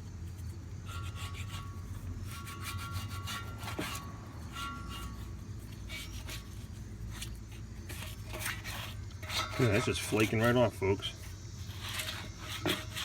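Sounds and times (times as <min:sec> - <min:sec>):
scraping paint off metal rim: 0:00.2 - 0:13.0.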